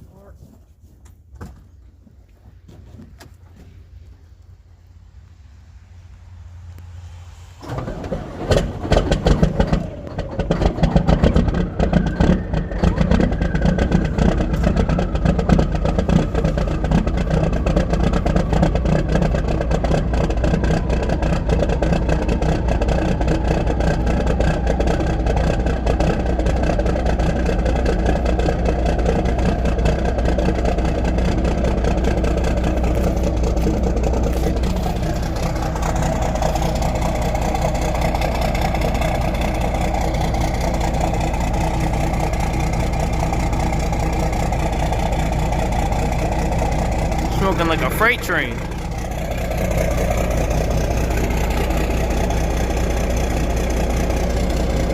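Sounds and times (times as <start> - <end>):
diesel engine starting and idling: 1.5 - 54.9.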